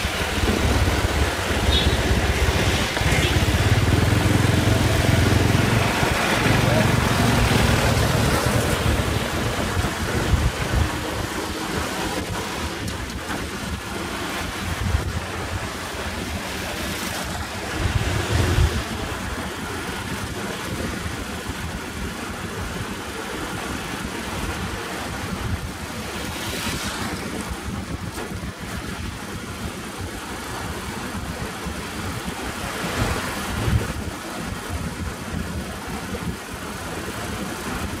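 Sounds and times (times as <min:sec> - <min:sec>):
motorcycle engine: 0:00.0 - 0:36.3
wind rushing over microphone: 0:00.0 - 0:38.0.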